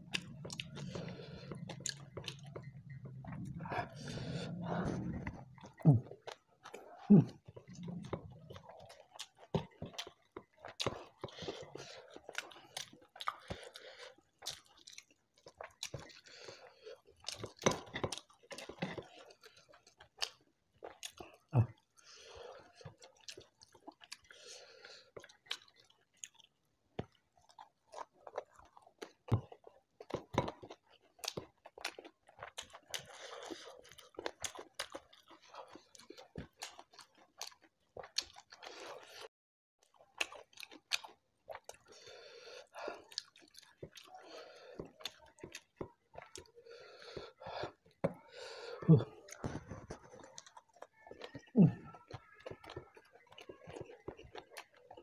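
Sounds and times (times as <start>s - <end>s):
chewing food: 0.0s - 55.0s.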